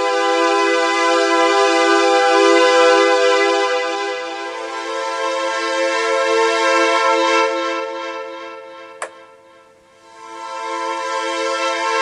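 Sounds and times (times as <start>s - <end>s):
synthesizer strings held chord with echo: 0.0s - 12.0s.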